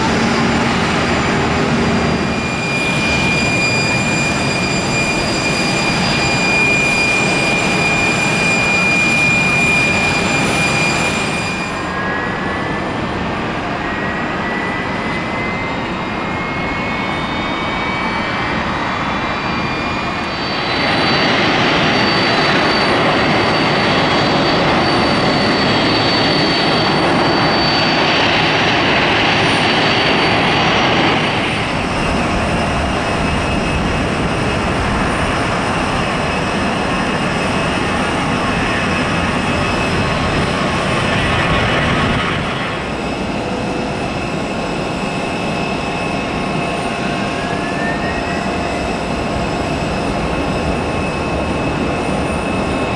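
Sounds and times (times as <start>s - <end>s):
jet engine rushing noise: 0.0s - 52.9s
jet engine spooling up: 0.0s - 52.9s
jet engine whine: 0.0s - 52.9s.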